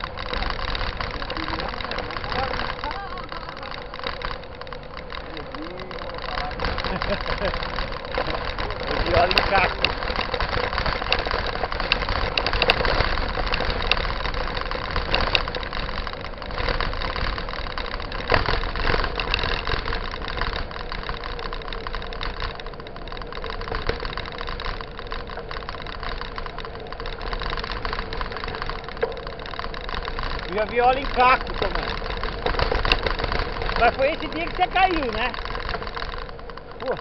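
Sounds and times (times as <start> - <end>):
bike rattling over dirt road: 0.0 - 37.0.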